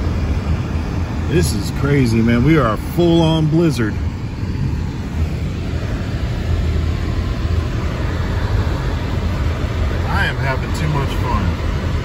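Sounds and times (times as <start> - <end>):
car engine and tyres rumbling: 0.0 - 12.0
hiss of snow and wind: 0.0 - 12.0.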